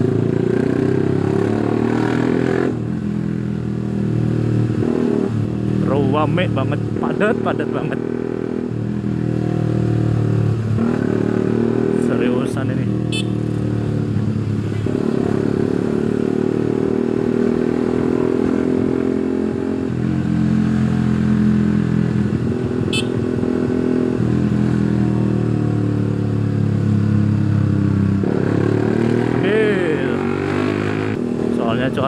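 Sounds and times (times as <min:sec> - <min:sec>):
motorcycle engine at low revs: 0:00.0 - 0:32.0.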